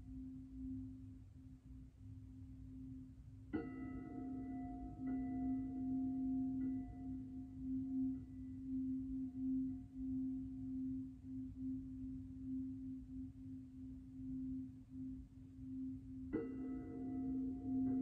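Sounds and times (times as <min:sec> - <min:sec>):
low ringing drone tone: 0:00.0 - 0:18.0.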